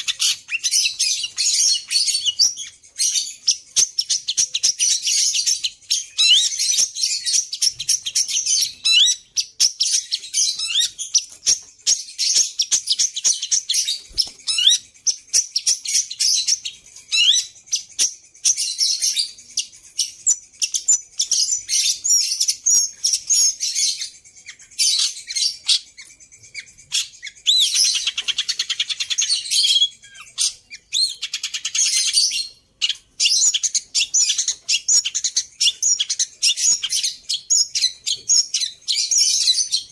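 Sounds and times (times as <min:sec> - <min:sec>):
bird rapid trills: 0:00.0 - 0:39.9
bird singing: 0:00.0 - 0:39.9.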